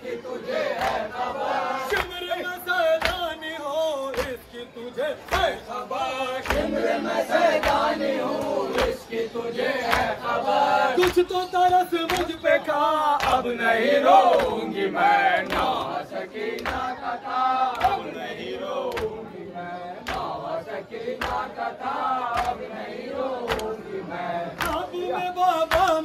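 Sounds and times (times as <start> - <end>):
men chanting a lament: 0.0 - 26.0.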